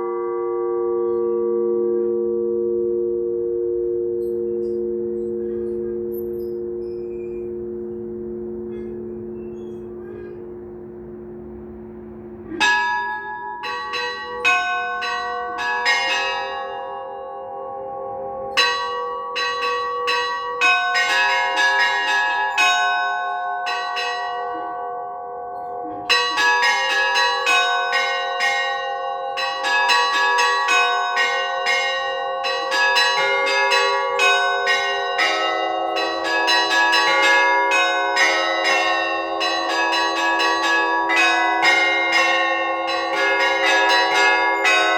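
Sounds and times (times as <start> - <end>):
low church bell tone: 0.0 - 44.9
small bells striking: 3.8 - 44.9.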